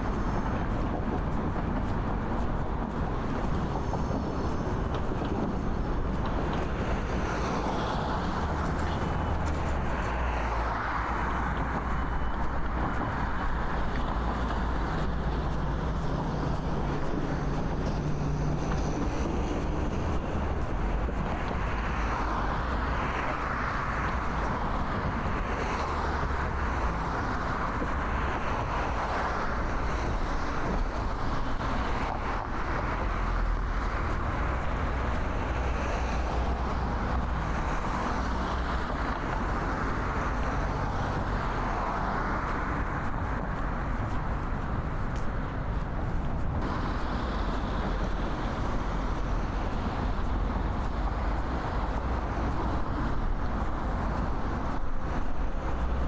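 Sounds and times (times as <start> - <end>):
cars passing on road: 0.0 - 56.0.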